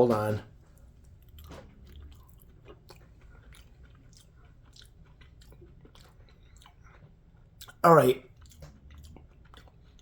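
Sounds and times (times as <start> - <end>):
man chewing: 0.5 - 10.0.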